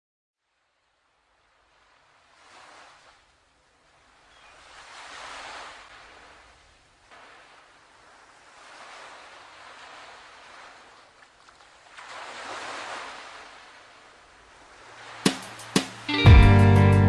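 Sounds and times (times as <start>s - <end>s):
ocean surf on sandy beach: 0.6s - 16.3s.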